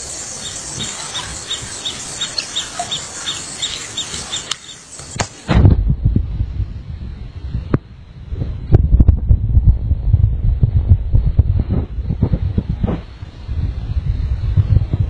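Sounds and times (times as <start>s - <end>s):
wind buffeting microphone: 0.0s - 4.8s, 5.5s - 15.0s
steady outdoor hiss: 0.0s - 15.0s.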